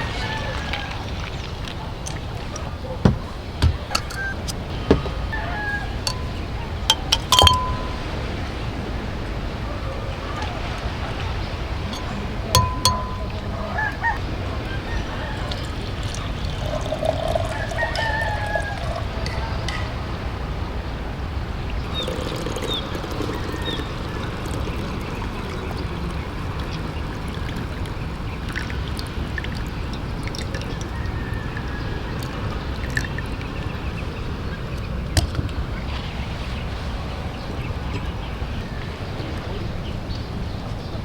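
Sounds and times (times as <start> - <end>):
sea waves on a beach: 0.0 - 41.0.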